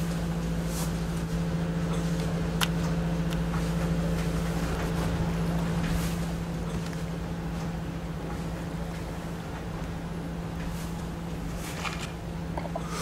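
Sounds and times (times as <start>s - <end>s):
boat machinery humming: 0.0s - 13.0s.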